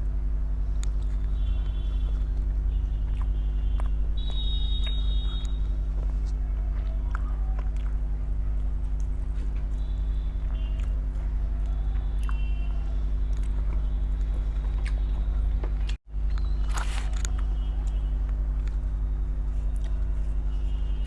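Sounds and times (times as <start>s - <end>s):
loud steady low hum: 0.0s - 21.0s
person chewing food: 0.6s - 20.9s.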